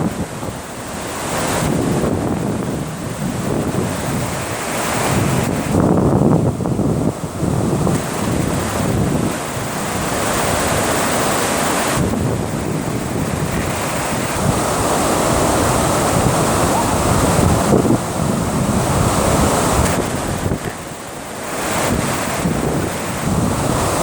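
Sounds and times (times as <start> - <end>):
water rushing over dam: 0.0 - 24.0
wind buffeting microphone: 0.0 - 24.0.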